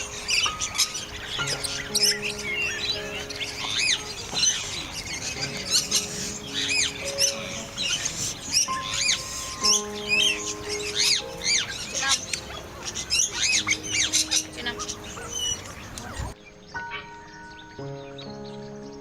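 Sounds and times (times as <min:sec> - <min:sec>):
background music with held notes: 0:00.0 - 0:19.0
birds chirping and squawking: 0:00.0 - 0:19.0.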